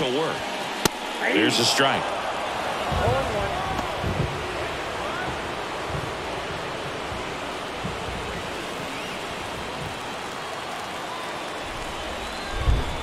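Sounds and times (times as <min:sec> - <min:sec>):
stadium crowd hubbub: 0:00.0 - 0:13.0.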